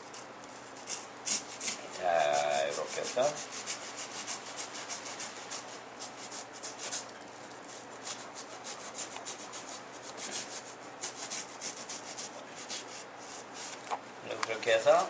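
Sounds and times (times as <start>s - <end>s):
knife sawing through foam: 0.0s - 7.1s, 7.7s - 13.8s.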